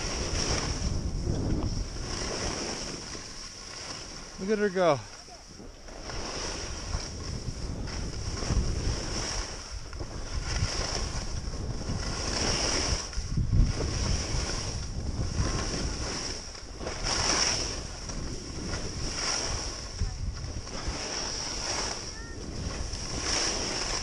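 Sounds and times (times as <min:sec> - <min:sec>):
skis sliding on snow: 0:00.0 - 0:24.0
wind rushing over microphone: 0:00.0 - 0:24.0.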